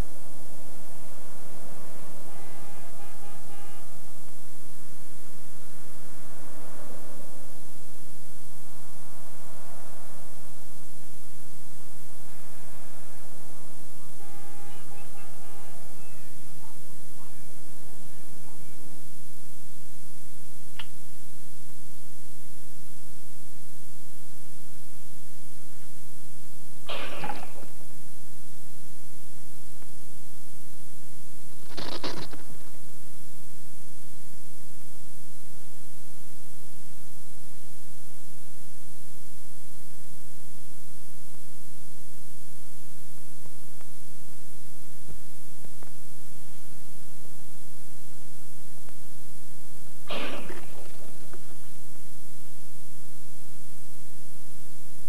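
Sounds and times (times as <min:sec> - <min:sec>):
low mains hum: 0:00.0 - 0:55.0
tape hiss: 0:00.0 - 0:55.0.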